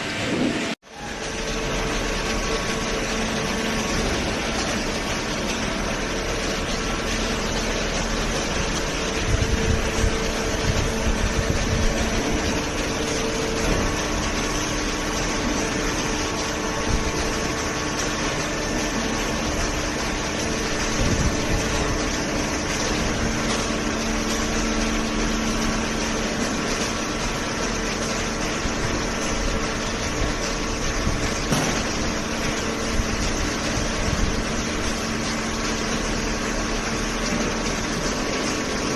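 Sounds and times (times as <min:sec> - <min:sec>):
baler motor humming: 0:00.0 - 0:38.9.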